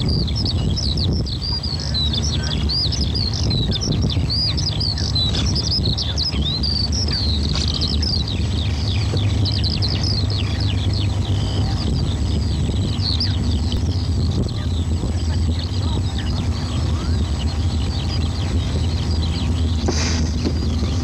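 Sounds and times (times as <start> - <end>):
many birds chirping: 0.0 - 21.0
steady low hum: 0.0 - 21.0.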